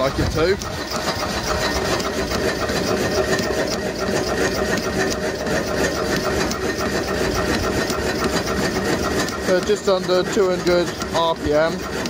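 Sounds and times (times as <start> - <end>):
engine rhythmic mechanical clatter: 0.0 - 12.0.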